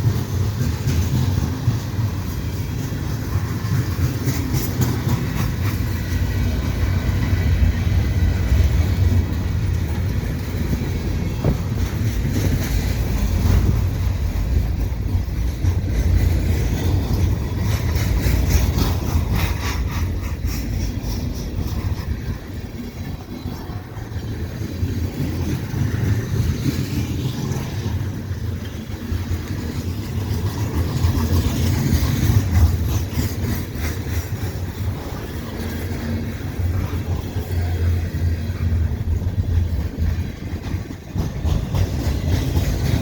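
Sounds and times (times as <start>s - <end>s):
train wheels rumbling on rails: 0.0s - 43.0s
wheels clicking over rail joints: 0.0s - 43.0s.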